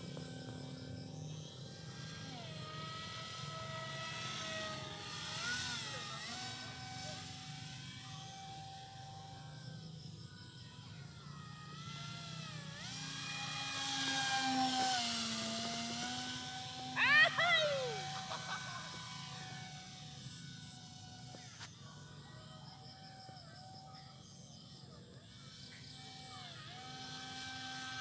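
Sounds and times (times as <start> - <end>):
electric motor propeller whine: 0.0 - 28.0.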